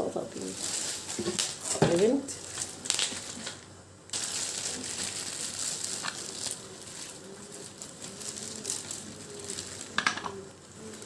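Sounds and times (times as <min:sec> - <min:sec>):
packaging rustling and crinkling: 0:00.2 - 0:11.0.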